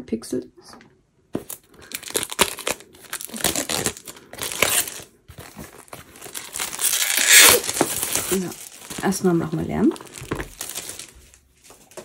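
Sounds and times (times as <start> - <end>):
plastic packaging crackling: 1.4 - 12.0.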